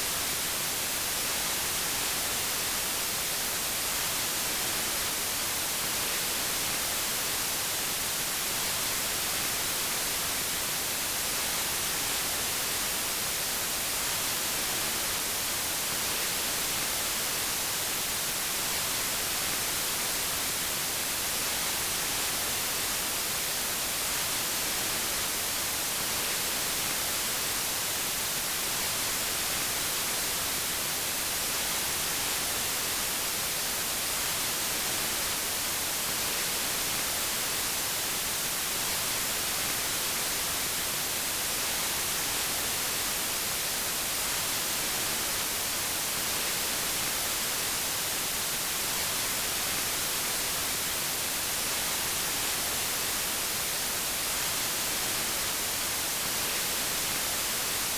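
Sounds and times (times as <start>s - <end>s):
steady white noise hiss: 0.0s - 57.9s.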